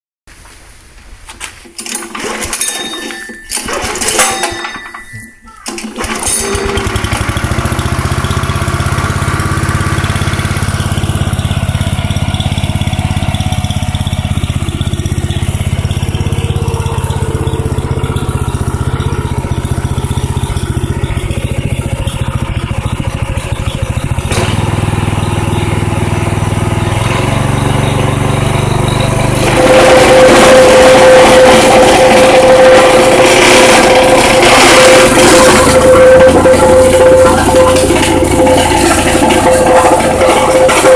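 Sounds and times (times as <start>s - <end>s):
plate compactor engine running: 1.6s - 40.9s.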